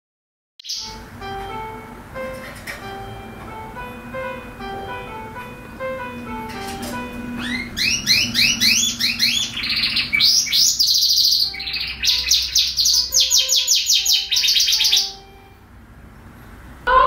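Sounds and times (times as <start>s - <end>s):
canary singing: 0.6s - 2.1s, 2.9s - 16.3s.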